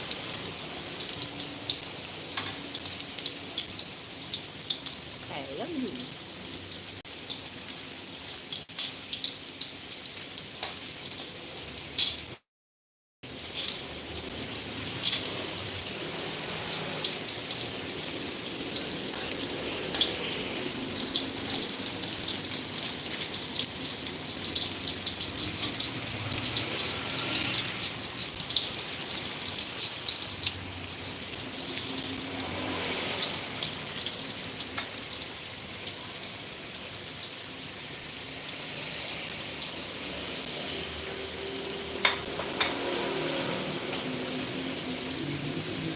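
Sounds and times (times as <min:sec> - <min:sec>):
meatballs frying in hot oil: 0:00.0 - 0:12.5, 0:13.2 - 0:45.9.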